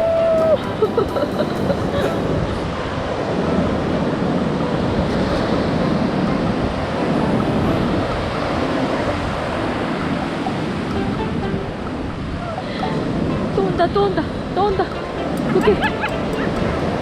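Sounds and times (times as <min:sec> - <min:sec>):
ocean waves breaking on beach: 0:00.0 - 0:17.0
wind buffeting microphone: 0:00.0 - 0:17.0.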